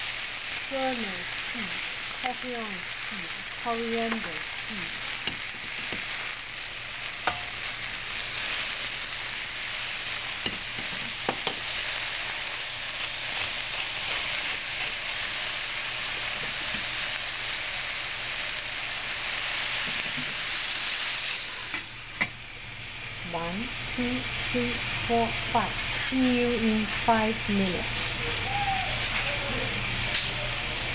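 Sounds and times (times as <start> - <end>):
vegetables sizzling in pot: 0.0 - 30.9.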